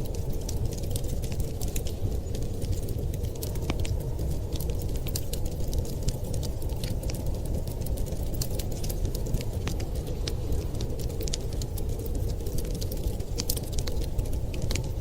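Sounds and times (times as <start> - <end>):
fire rumbling: 0.0 - 15.0
wood fire crackling: 0.0 - 15.0.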